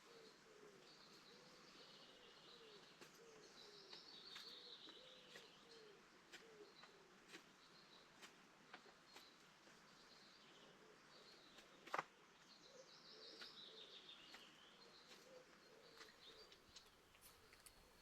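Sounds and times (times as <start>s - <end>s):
faint birdsong chirps: 0.0s - 18.0s.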